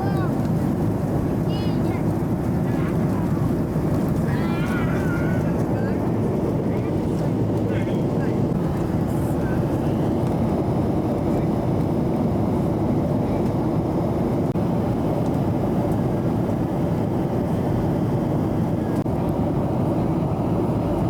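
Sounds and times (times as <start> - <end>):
airflow over fuselage: 0.0 - 21.0
jet engines rushing: 0.0 - 21.0.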